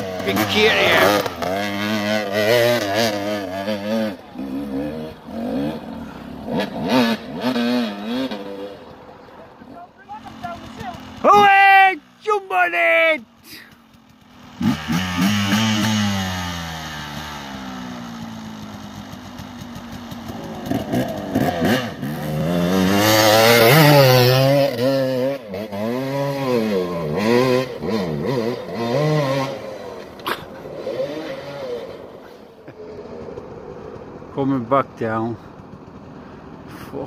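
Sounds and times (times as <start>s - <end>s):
dirt bike engine revving: 0.0s - 9.0s, 13.4s - 34.3s.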